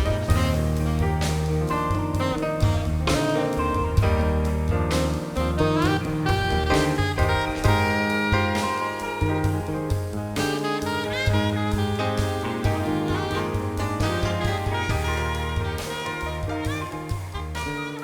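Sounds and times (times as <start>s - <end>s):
bass line: 0.0s - 18.0s
steady drum beat: 0.0s - 18.0s.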